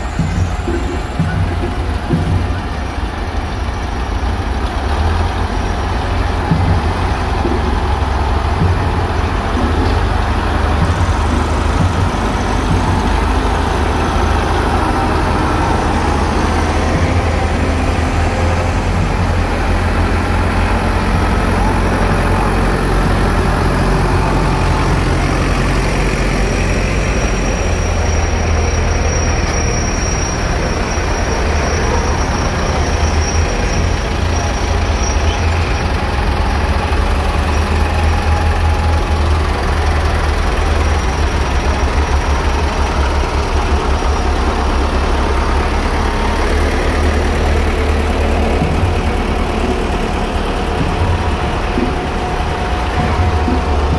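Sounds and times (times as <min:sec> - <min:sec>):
tractor diesel engines: 0:00.0 - 0:53.9.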